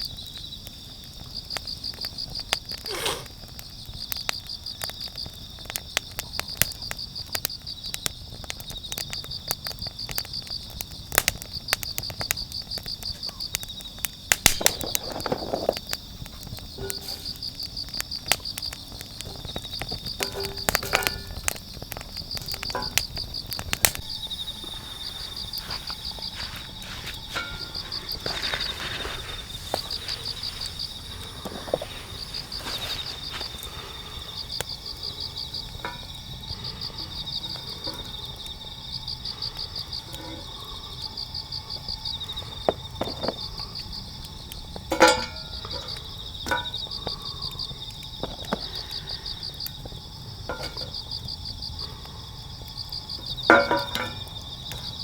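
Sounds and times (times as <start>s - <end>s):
campfire crackling and popping: 0.0s - 55.0s
crickets chirping: 0.0s - 55.0s.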